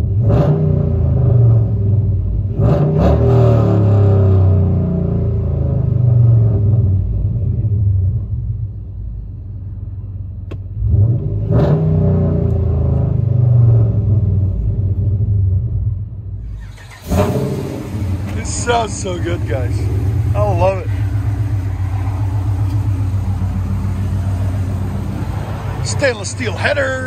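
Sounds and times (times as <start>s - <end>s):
truck engine revving: 0.0s - 8.0s, 10.8s - 15.3s, 16.4s - 27.0s.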